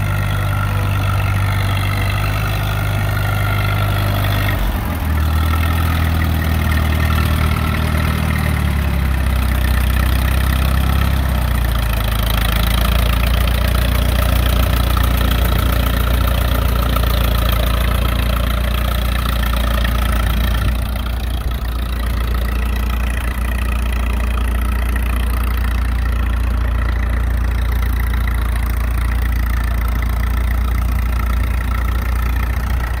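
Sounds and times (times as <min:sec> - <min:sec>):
tractor engine idling: 0:00.0 - 0:33.0.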